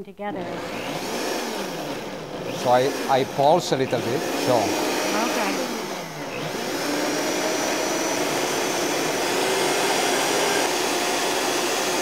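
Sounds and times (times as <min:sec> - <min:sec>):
blender whirring: 0:00.3 - 0:12.0.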